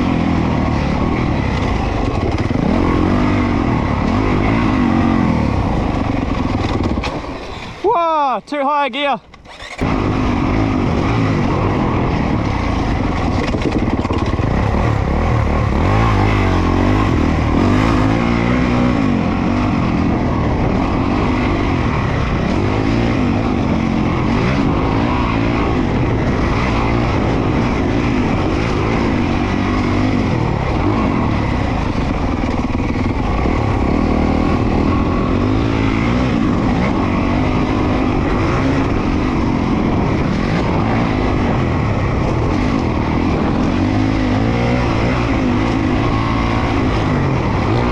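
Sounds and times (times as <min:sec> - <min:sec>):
motocross bike engine revving: 0:00.0 - 0:07.6, 0:09.4 - 0:47.9
steady rushing noise: 0:00.0 - 0:47.9.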